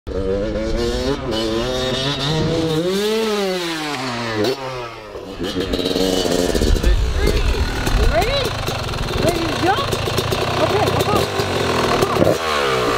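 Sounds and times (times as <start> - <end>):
dirt bike engine revving: 0.1 - 12.9.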